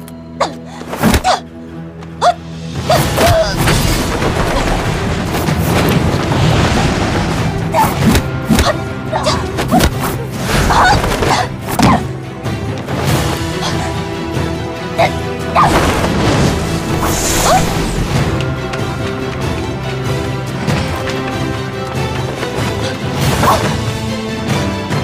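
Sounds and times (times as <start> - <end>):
dramatic action film score: 0.0 - 25.0.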